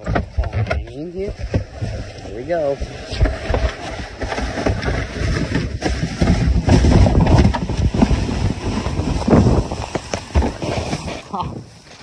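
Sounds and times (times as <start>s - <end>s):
kayak scraping over snow: 0.0s - 12.0s
wind buffeting microphone: 0.0s - 12.0s.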